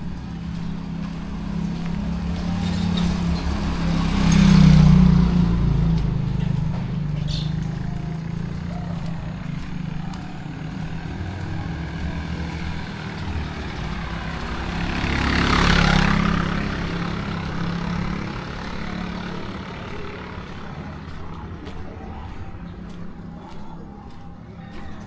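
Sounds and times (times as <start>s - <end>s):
vehicle driving past: 0.0s - 25.0s.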